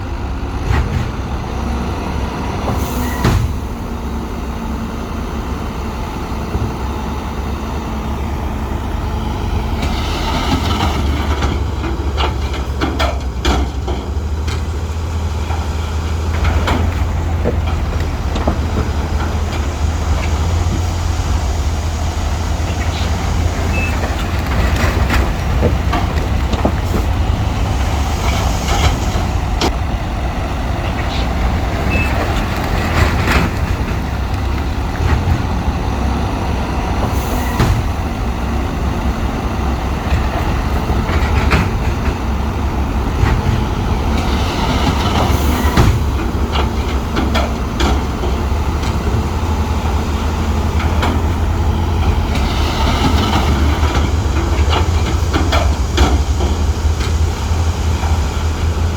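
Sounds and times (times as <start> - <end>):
bulldozer diesel engine rumbling: 0.0 - 58.9
tracks and stone clanking: 4.8 - 58.9.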